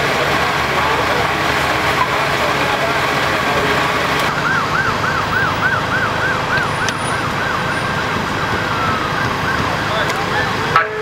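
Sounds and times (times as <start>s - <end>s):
emergency vehicle siren: 0.0s - 11.0s
low engine rumble: 0.0s - 11.0s.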